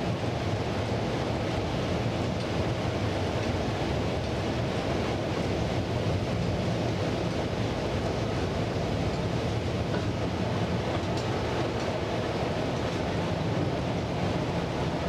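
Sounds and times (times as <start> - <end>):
diesel locomotive engine drone: 0.0 - 15.0
train rumbling along track: 0.0 - 15.0.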